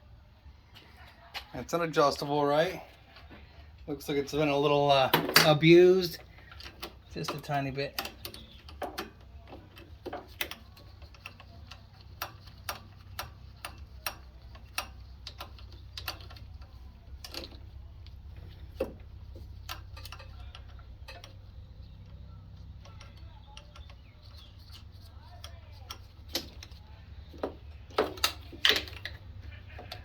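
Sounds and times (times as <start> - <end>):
hand tools tapping metal: 4.5 - 30.0.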